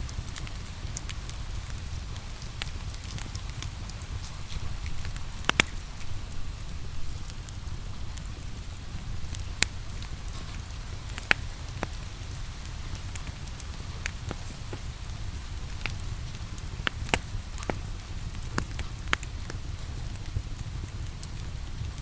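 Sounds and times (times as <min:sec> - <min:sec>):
burning logs popping: 0:00.0 - 0:22.0
steady rain: 0:00.0 - 0:22.0
wood fire crackling: 0:00.0 - 0:22.0.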